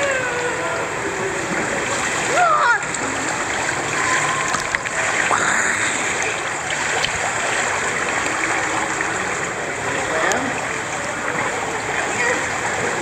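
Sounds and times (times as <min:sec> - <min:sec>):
pool water churning and lapping: 0:00.0 - 0:13.0.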